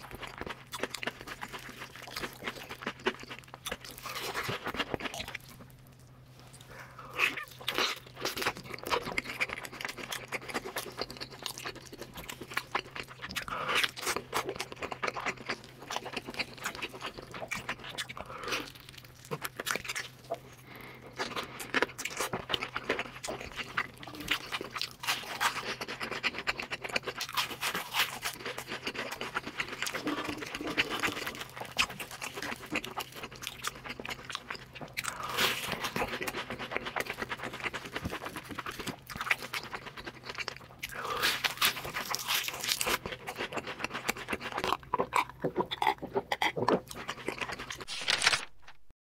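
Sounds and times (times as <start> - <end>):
crunching and chewing: 0.0 - 48.8.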